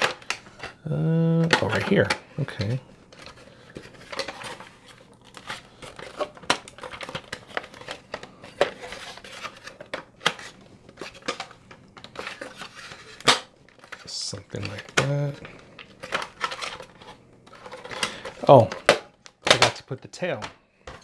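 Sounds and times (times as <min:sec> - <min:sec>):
crinkling: 0:00.0 - 0:19.8.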